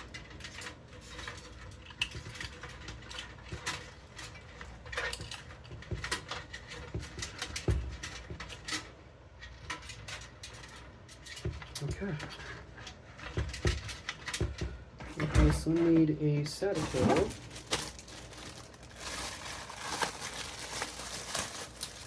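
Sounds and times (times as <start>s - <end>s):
cables and connectors rattling: 0.0s - 22.0s.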